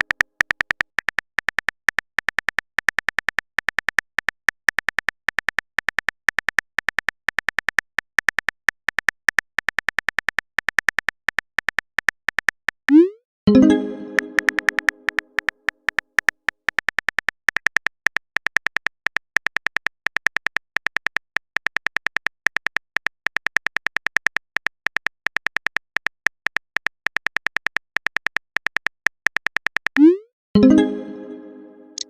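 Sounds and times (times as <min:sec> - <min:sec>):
phone keyboard typing clicks: 0:00.0 - 0:30.2.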